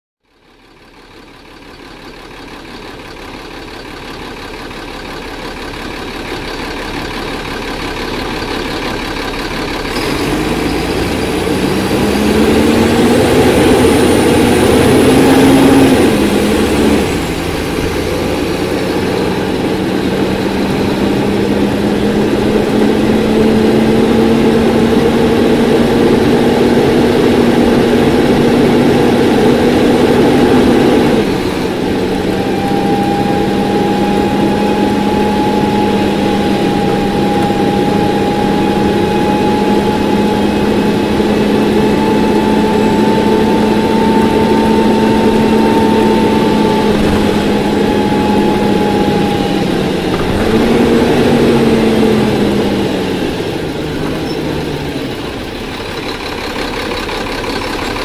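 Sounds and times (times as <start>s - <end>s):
diesel bus engine: 0.2s - 58.0s.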